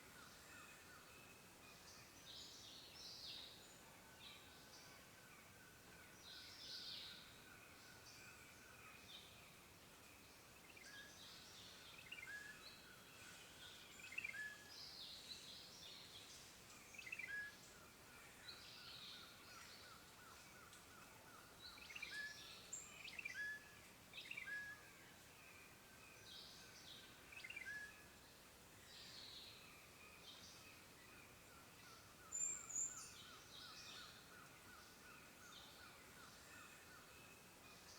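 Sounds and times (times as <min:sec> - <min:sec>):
soft steady hiss: 0:00.0 - 0:37.9.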